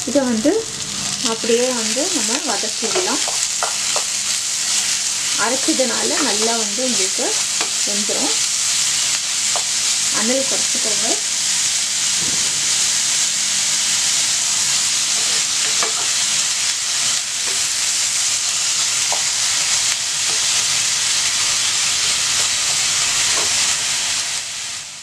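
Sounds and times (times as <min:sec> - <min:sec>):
chicken and onion sizzling in a pan: 0:00.0 - 0:25.0.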